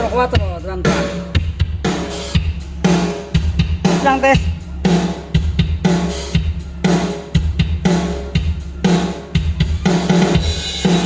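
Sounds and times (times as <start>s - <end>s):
drum groove with kick and snare: 0.0s - 11.0s.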